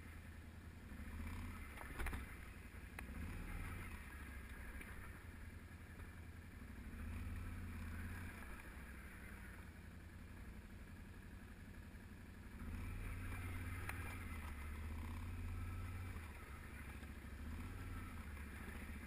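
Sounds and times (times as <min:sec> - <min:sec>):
atv engine droning: 0:00.0 - 0:19.0.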